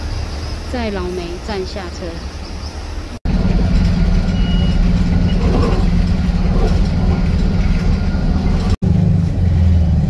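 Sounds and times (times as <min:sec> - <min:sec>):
bus engine drone: 0:00.0 - 0:10.0
road noise: 0:00.0 - 0:10.0.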